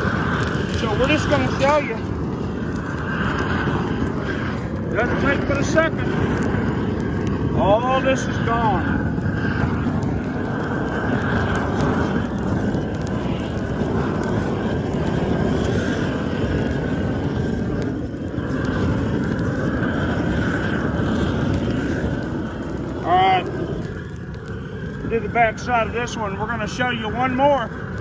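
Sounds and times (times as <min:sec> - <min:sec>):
weed torch flame rushing: 0:00.0 - 0:28.0.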